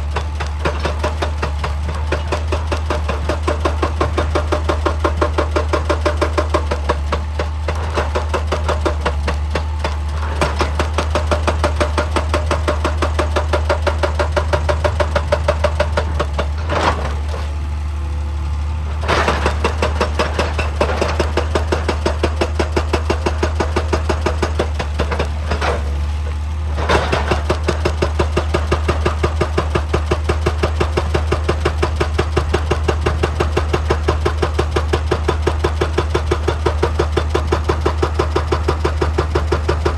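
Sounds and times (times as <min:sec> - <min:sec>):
hydraulic breaker hammering rock: 0:00.0 - 0:17.6, 0:18.9 - 0:39.9
diesel engine running: 0:00.0 - 0:39.9.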